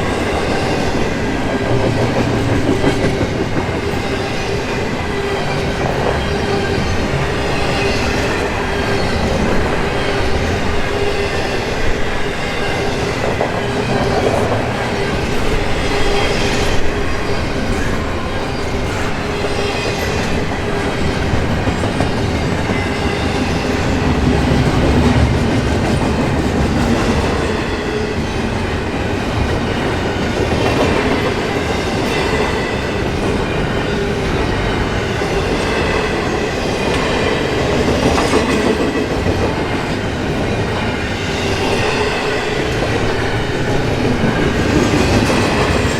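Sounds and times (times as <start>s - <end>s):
train wheels clattering on rails: 0.0s - 45.9s.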